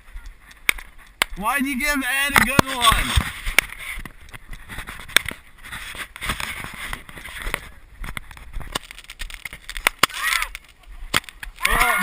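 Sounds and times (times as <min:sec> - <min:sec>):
fireworks popping: 0:00.0 - 0:12.0.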